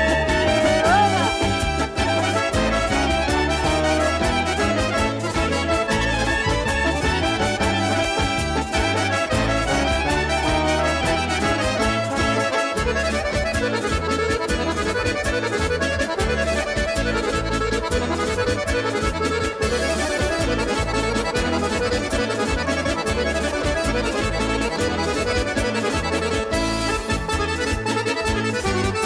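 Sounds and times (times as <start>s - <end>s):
accordion melody: 0.0s - 29.0s
pulsing bass line: 0.0s - 29.0s.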